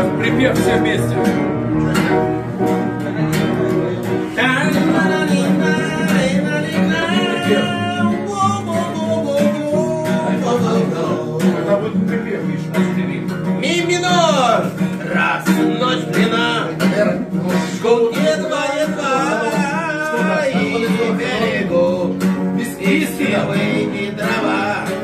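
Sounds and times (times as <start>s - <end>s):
acoustic guitar strumming: 0.0s - 25.0s
voices singing: 0.0s - 25.0s.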